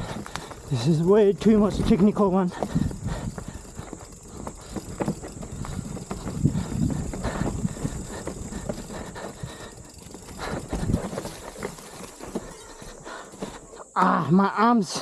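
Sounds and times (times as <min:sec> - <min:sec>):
bike rattling over rocks: 0:00.0 - 0:13.9.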